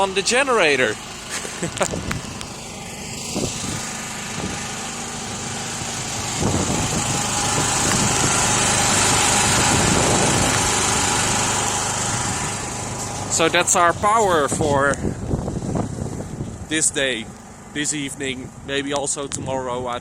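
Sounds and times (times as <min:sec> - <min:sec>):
petrol generator running: 0:00.0 - 0:20.0.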